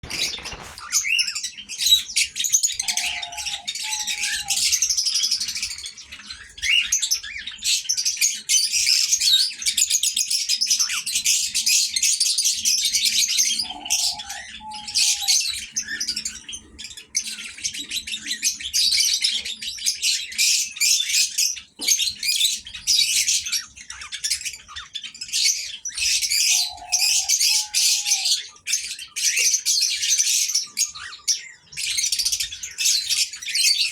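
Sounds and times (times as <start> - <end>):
cockatiels chirping and chattering: 0.0 - 33.9.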